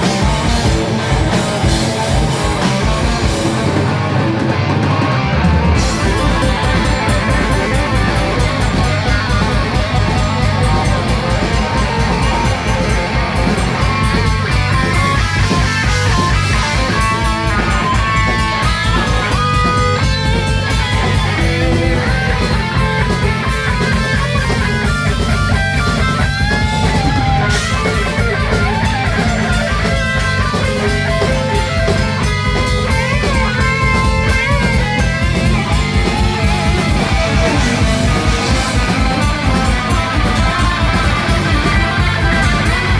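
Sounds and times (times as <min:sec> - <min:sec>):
bass: 0:00.0 - 0:42.9
electric guitars: 0:00.0 - 0:42.9
melody of held notes: 0:00.0 - 0:42.9
pounding drum kit: 0:00.0 - 0:42.9.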